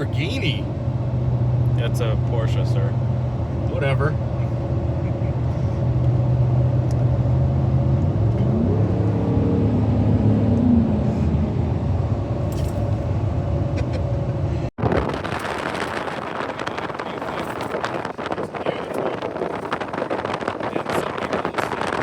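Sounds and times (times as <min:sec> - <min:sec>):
car engine running: 0:00.0 - 0:22.0
road noise: 0:00.0 - 0:22.0
windy roar: 0:00.0 - 0:22.0.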